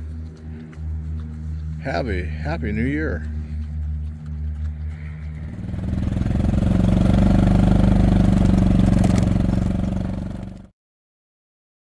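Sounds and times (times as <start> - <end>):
engine running with steady pulsing: 0.0 - 10.7.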